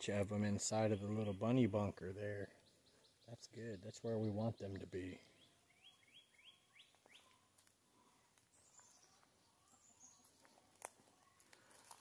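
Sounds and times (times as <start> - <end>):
faint bird chirps: 0.4 - 12.0.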